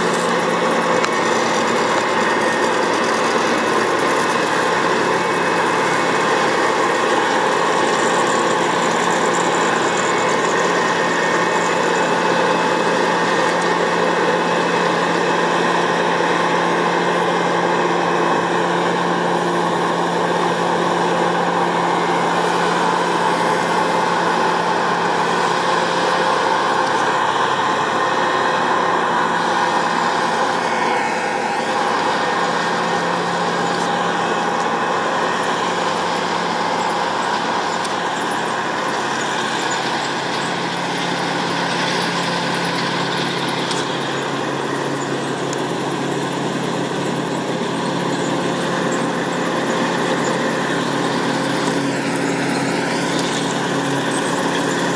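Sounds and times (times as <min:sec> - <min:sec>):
combine harvester engine hum: 0:00.0 - 0:54.9
threshing machinery whir and rattle: 0:00.0 - 0:54.9.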